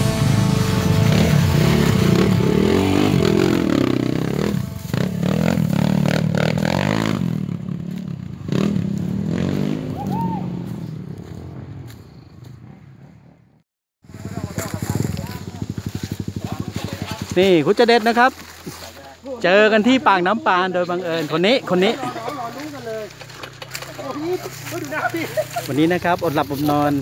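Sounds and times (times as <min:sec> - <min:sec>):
dirt bike engines revving: 0:00.0 - 0:13.3, 0:14.1 - 0:27.0.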